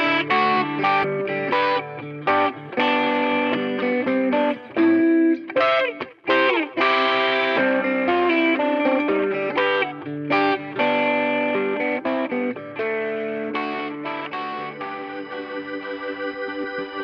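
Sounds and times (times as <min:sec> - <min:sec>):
electric guitar with effects: 0:00.0 - 0:17.0.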